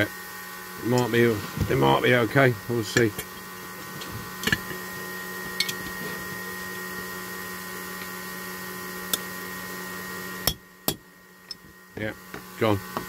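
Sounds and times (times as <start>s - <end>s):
rotary tool grinding whine: 0.0s - 13.0s.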